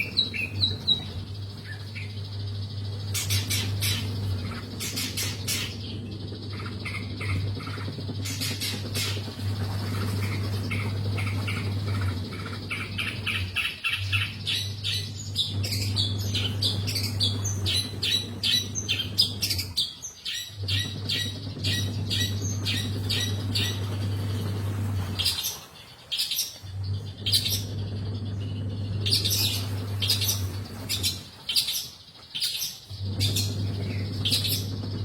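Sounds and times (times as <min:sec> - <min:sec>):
bird singing harsh repeated notes: 0:00.0 - 0:35.0
steady low hum: 0:00.0 - 0:35.0.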